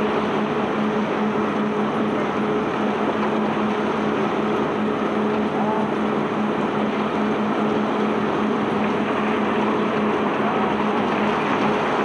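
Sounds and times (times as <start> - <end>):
ship machinery humming: 0.0 - 12.0.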